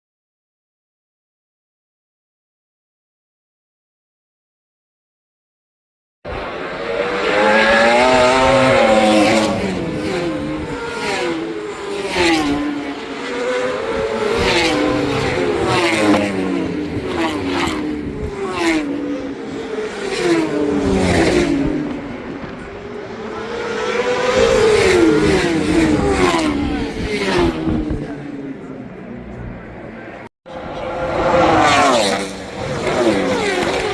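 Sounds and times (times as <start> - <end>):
racing motorcycles passing: 6.3 - 33.9.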